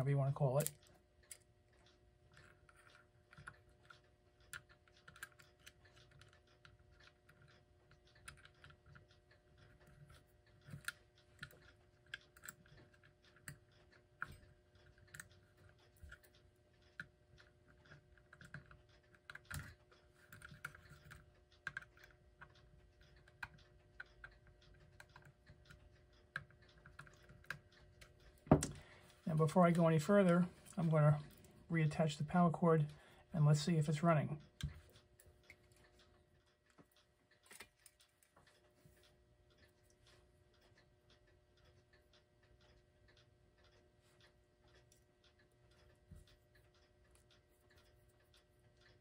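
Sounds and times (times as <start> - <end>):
small metal clock parts clicking: 0.0 - 49.0.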